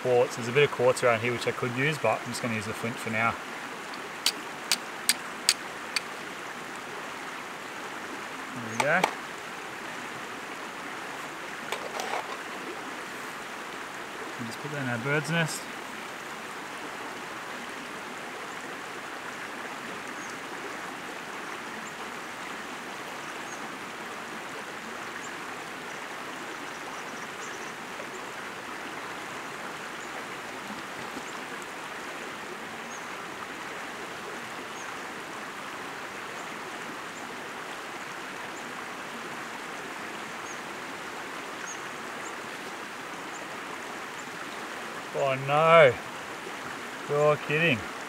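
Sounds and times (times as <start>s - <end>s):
river water flowing over rocks: 0.0s - 48.0s.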